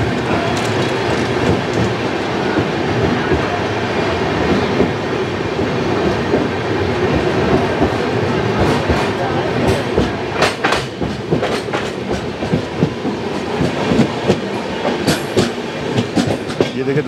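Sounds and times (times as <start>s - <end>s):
train coaches rumbling on track: 0.0s - 17.0s.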